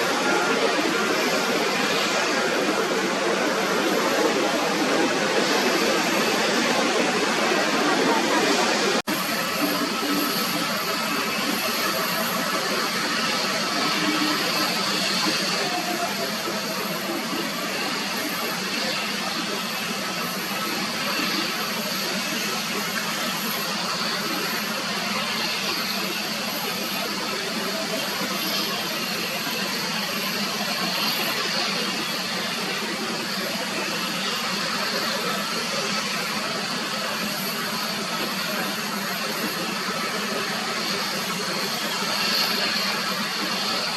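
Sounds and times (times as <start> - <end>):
jet engines rushing: 0.0 - 43.9.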